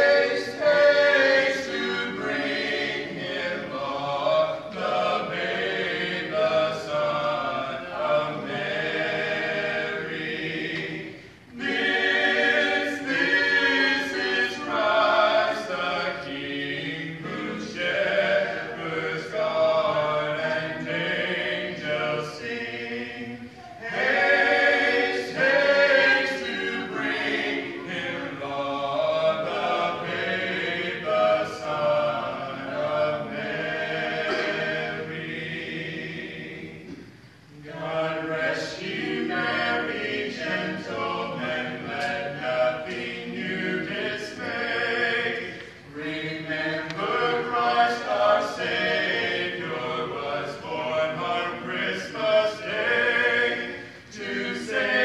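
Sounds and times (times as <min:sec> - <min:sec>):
group singing a cappella: 0:00.0 - 0:55.0.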